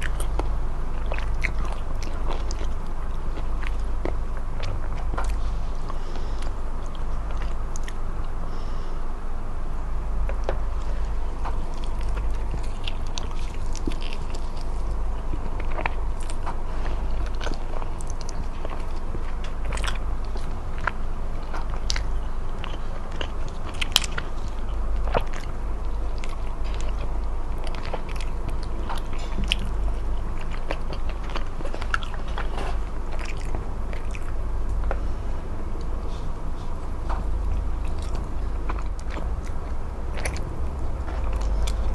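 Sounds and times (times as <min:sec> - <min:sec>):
person chewing crunchy food: 0:00.0 - 0:09.0, 0:10.1 - 0:41.9
low steady hum: 0:00.0 - 0:41.9.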